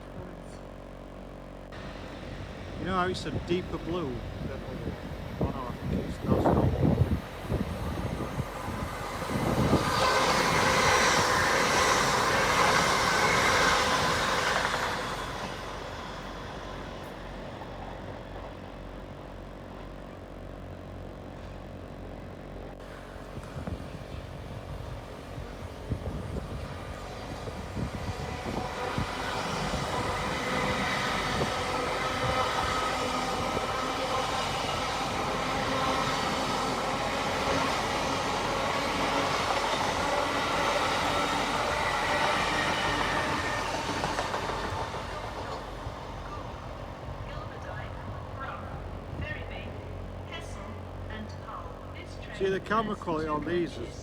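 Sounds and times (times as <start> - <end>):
train running through station: 0.0 - 54.0.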